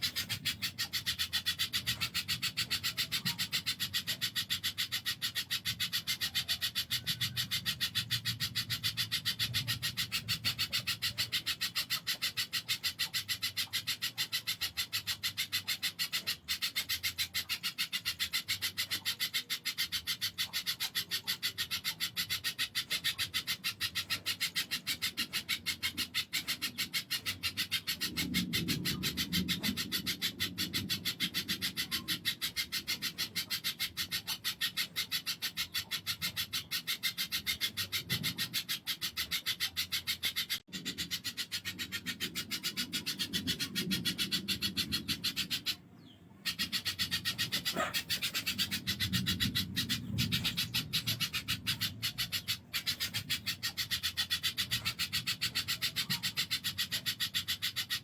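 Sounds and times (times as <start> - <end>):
bird calling in sharp high ticks: 0.0 - 58.0.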